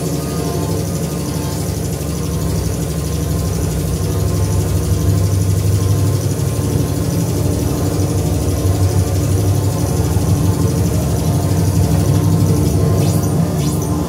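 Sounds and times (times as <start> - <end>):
synthesizer drone: 0.0 - 14.0.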